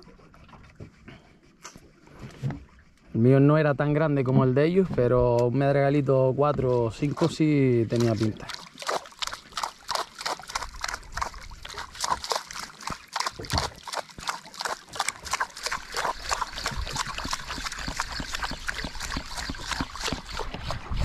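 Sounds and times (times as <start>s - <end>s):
water sloshing against boat hull: 0.0s - 21.0s.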